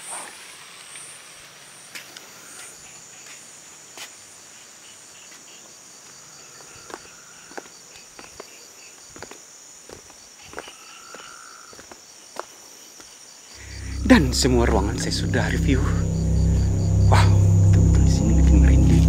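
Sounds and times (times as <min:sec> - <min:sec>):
crickets chirring: 0:00.5 - 0:19.0.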